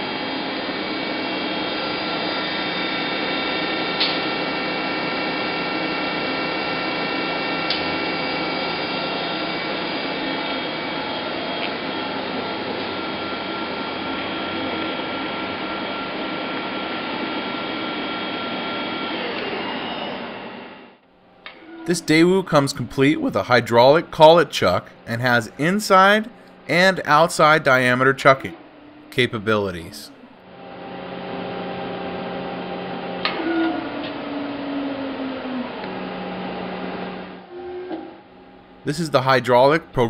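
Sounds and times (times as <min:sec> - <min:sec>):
lathe spindle whine: 0:00.0 - 0:39.8.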